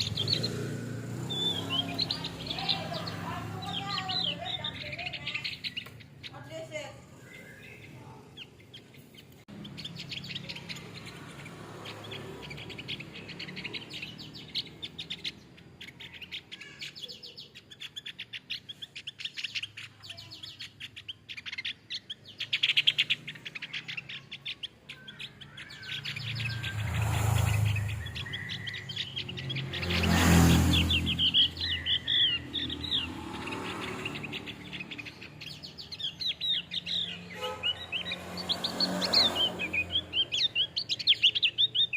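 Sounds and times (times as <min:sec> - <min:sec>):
bird chirping and whistling: 0:00.0 - 0:41.9.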